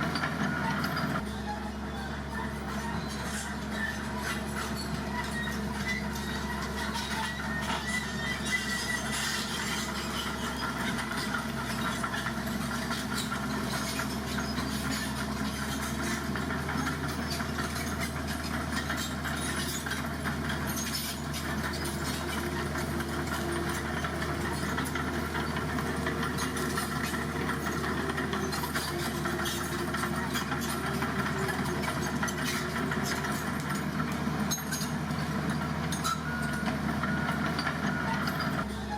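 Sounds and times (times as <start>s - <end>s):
dump truck engine running: 0.0s - 38.9s.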